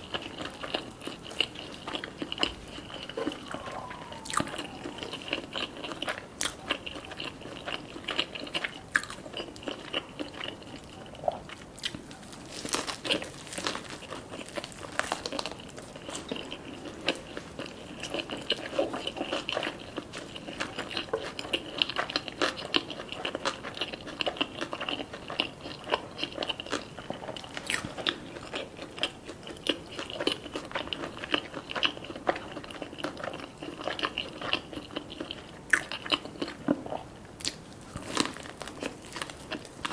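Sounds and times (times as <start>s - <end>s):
chewing with crisp crunches: 0.0s - 39.9s.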